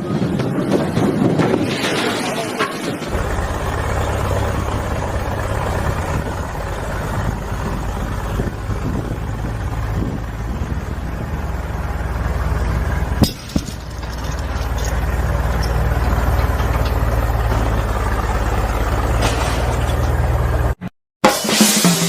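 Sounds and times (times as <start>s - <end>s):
excavator diesel engine running: 0.0s - 20.8s.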